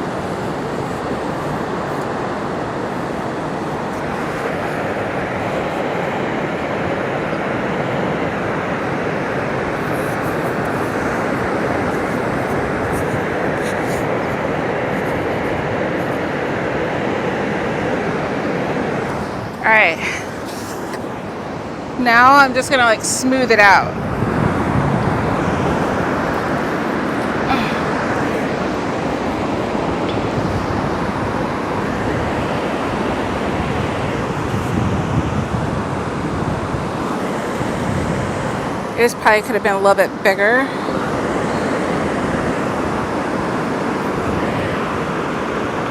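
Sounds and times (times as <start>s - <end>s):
ocean surf rushing: 0.0s - 45.9s.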